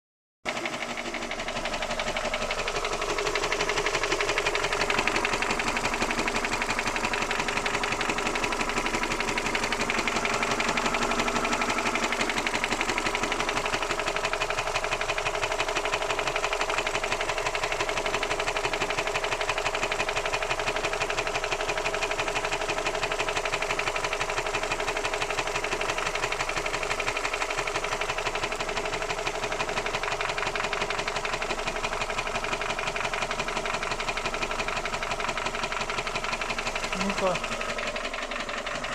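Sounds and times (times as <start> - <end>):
car engine knocking: 0.5 - 38.9.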